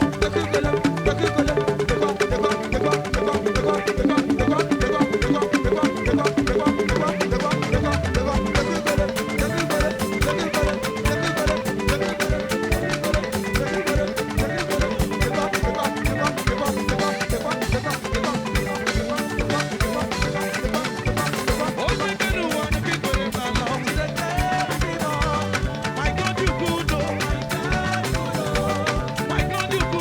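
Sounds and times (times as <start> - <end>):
drum kit beat: 0.0 - 30.0
live band music: 0.0 - 30.0.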